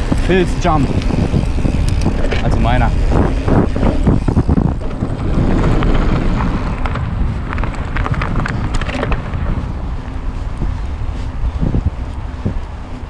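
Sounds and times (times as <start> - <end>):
bike clicks and rattles: 0.0 - 13.0
bike tyres rolling on dirt: 0.0 - 13.0
wind buffeting microphone: 0.0 - 13.0.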